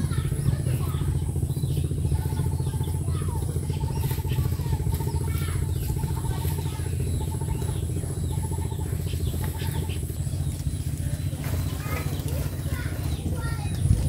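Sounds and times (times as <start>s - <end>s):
small engine running: 0.0s - 14.0s
rapid high chirping: 1.0s - 14.0s.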